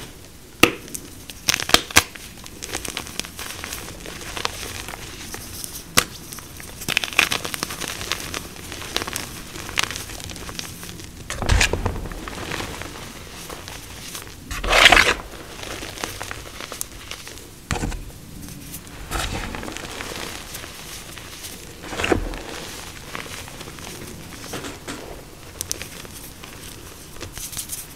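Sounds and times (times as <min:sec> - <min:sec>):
chalk crunching by hand: 0:01.9 - 0:27.9.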